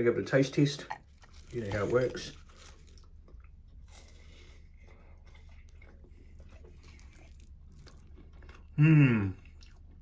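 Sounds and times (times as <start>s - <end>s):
pastry crunching: 0.6s - 10.0s
person chewing food: 0.8s - 10.0s.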